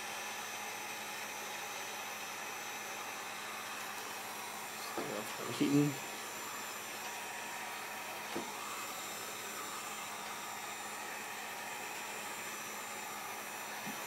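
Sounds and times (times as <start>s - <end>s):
hot-air blower hissing: 0.0s - 14.0s.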